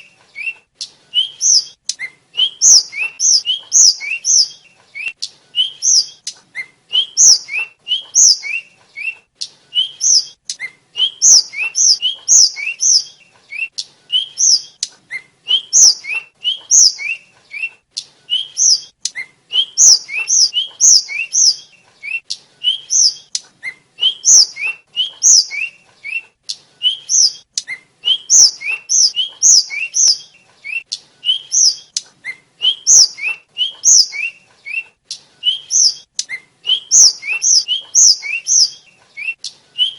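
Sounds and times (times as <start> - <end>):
small bird singing thin whistles: 0.0 - 39.9.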